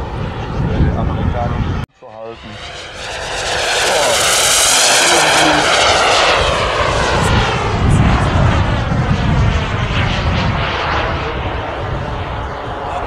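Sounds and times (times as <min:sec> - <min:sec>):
model jet engine whining: 0:00.0 - 0:13.0.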